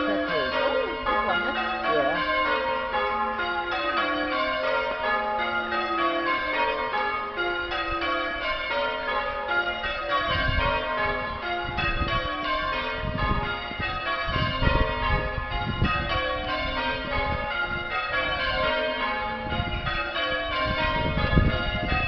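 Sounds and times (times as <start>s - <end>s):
church bells change ringing: 0.0s - 22.0s.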